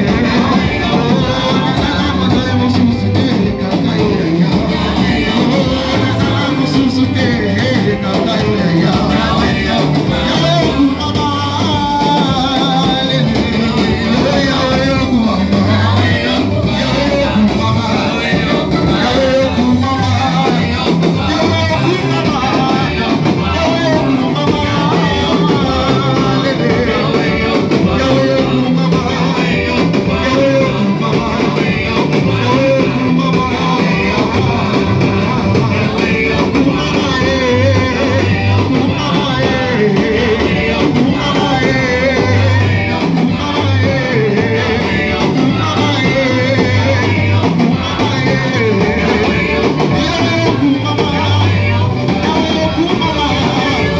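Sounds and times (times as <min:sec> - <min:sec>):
worship singing with band: 0:00.0 - 0:53.9.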